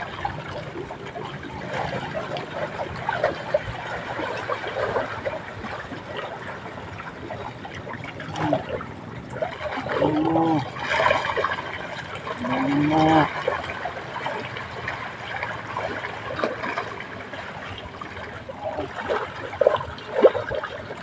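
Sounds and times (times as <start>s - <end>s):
water trickling and lapping: 0.0s - 21.0s.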